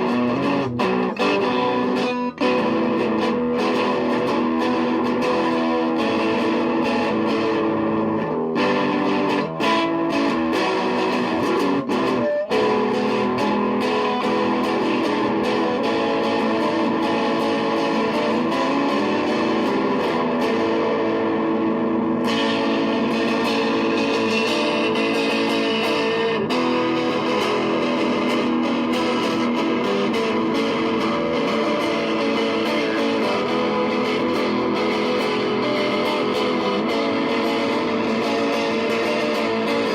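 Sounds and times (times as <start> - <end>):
guitar-led music: 0.0 - 39.9.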